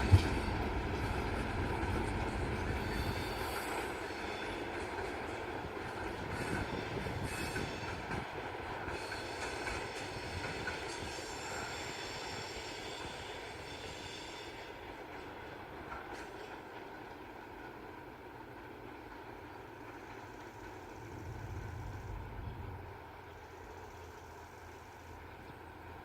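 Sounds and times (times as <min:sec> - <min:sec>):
train wheel squeal: 0:00.0 - 0:16.7, 0:19.5 - 0:25.8
freight train rolling on rails: 0:00.0 - 0:26.0.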